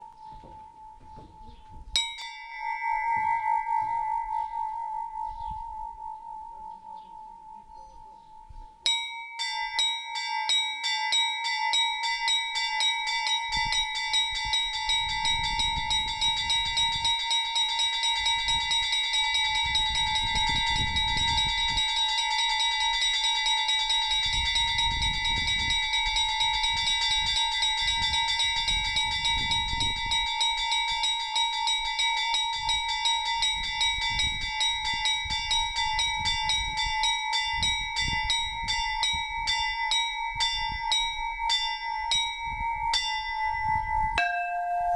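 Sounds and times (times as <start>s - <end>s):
small bells struck quickly: 0.0s - 7.6s, 8.9s - 44.9s
bells ringing: 0.0s - 44.9s.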